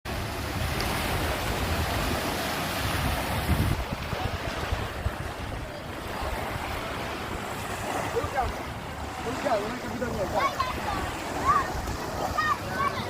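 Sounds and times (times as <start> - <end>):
sea waves washing on shore: 0.1 - 13.0
wind buffeting microphone: 0.1 - 13.0.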